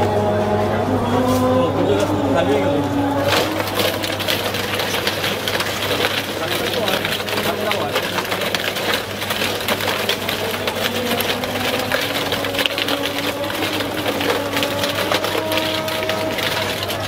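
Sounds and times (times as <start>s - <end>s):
ice cream freezer drum humming: 0.0s - 17.0s.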